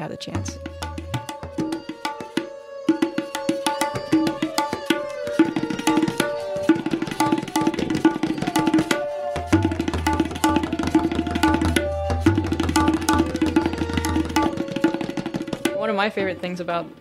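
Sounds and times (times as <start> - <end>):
tabla finger strokes: 0.0 - 16.0.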